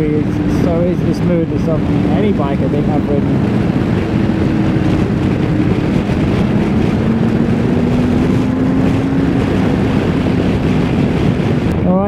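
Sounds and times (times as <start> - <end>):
motorcycle engine running: 0.0 - 12.0
wind rushing: 0.0 - 12.0.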